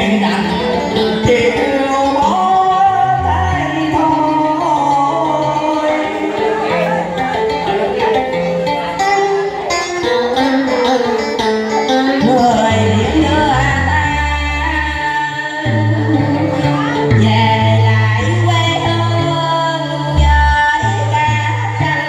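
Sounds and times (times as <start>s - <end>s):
woman singing: 0.0s - 7.5s, 10.0s - 22.0s
man singing: 0.0s - 8.1s, 9.0s - 22.0s
instrumental backing music: 0.0s - 22.0s.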